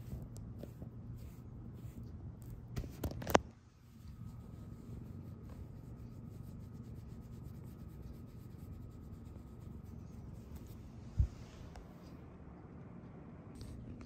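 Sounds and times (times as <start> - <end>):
fingers rubbing fur: 0.0 - 12.2.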